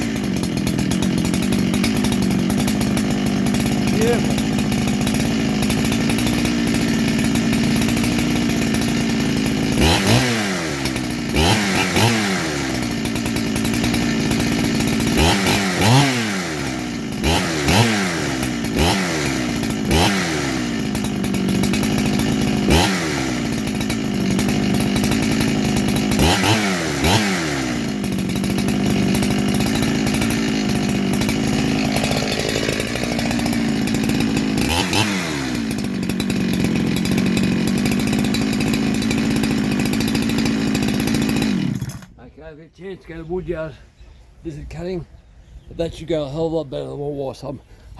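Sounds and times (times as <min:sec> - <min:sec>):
chainsaw idling and revving: 0:00.0 - 0:43.8.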